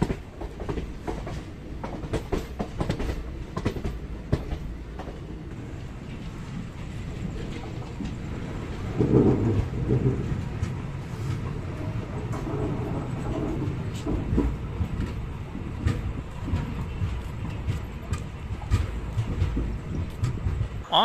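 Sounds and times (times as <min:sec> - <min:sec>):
wheels clacking over rail joints: 0:00.0 - 0:20.9
train wheels rumbling on track: 0:00.0 - 0:21.0.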